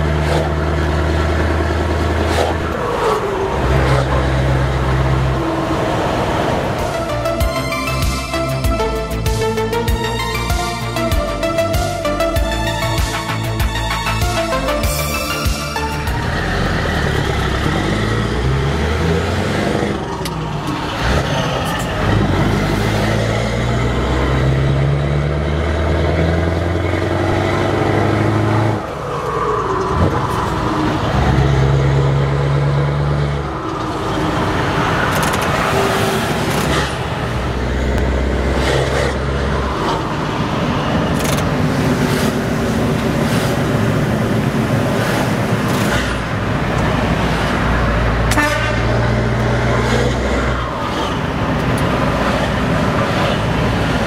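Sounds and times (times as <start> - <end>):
diesel truck engine accelerating: 0.0 - 54.0.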